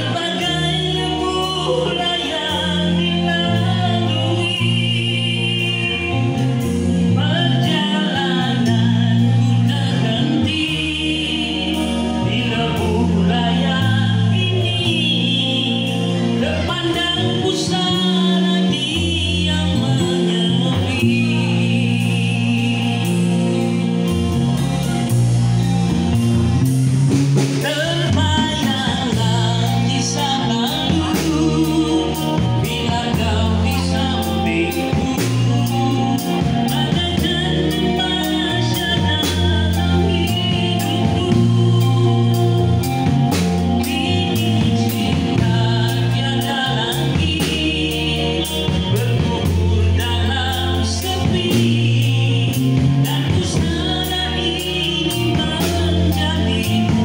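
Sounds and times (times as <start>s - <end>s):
man singing into microphone: 0.0s - 24.1s, 27.6s - 57.0s
bass guitar: 0.0s - 57.0s
drum kit with cymbals: 0.0s - 57.0s
electric guitar: 0.0s - 57.0s.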